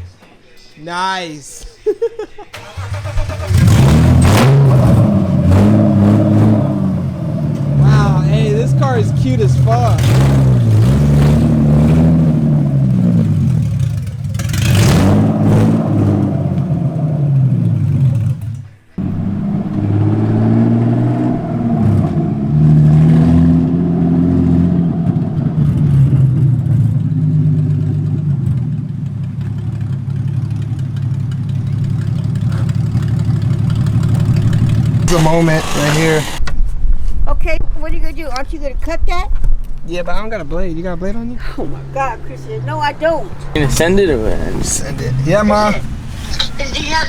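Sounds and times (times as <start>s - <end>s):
car engine revving: 2.6s - 36.4s, 41.0s - 47.0s.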